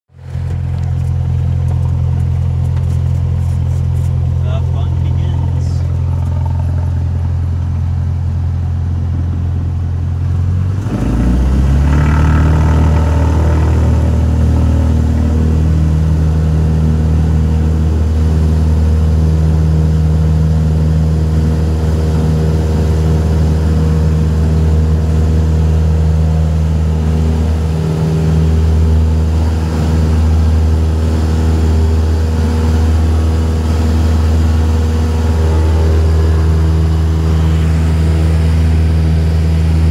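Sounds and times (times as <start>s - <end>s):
light aircraft engine and propeller: 0.1s - 39.9s.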